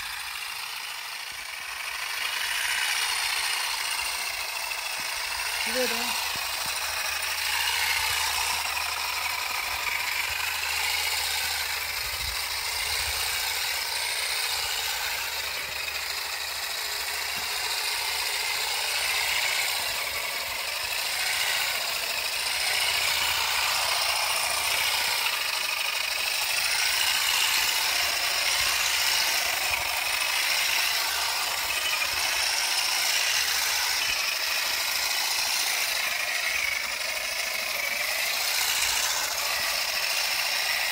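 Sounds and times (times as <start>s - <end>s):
olive harvester clattering: 0.0s - 40.9s.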